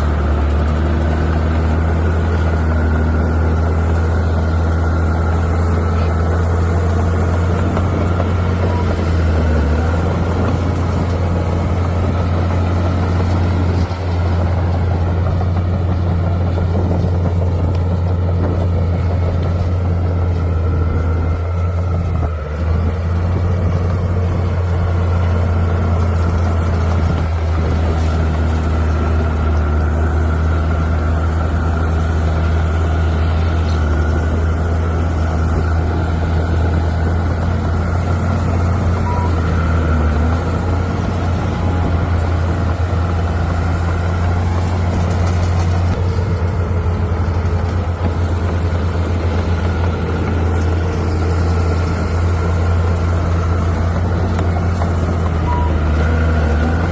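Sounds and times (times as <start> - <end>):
bulldozer diesel engine drone: 0.0 - 56.9.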